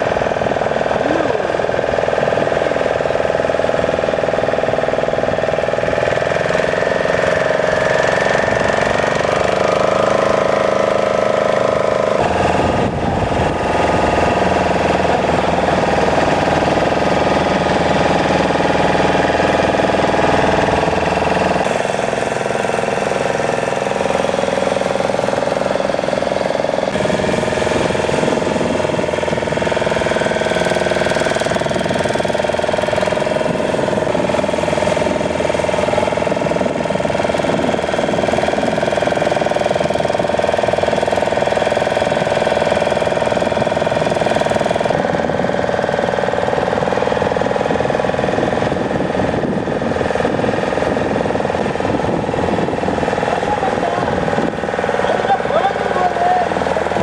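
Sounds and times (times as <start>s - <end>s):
motorboat engines running: 0.0s - 57.0s.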